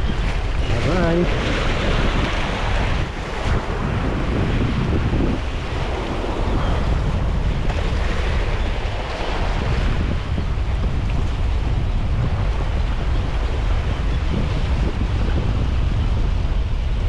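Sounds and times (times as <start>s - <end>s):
sea surf on rocky shore: 0.0s - 17.0s
wind buffeting microphone: 0.0s - 17.0s.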